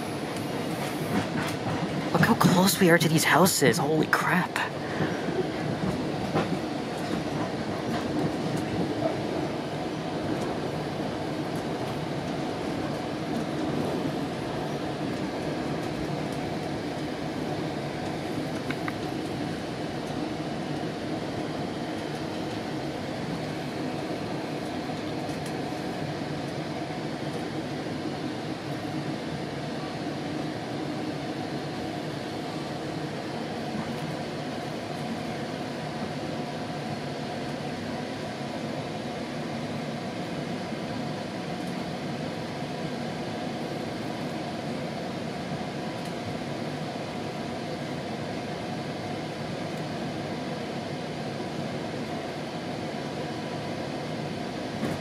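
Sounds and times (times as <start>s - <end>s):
train coach interior rumble: 0.0s - 2.6s, 4.7s - 55.0s.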